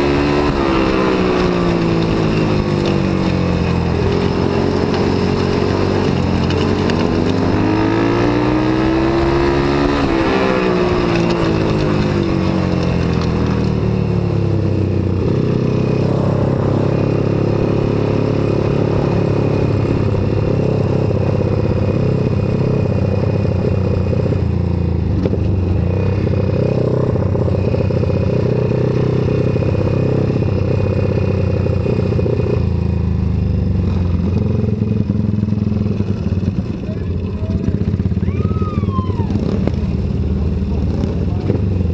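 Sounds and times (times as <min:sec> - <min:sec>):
motorcycle engine running hard: 0:00.0 - 0:41.9.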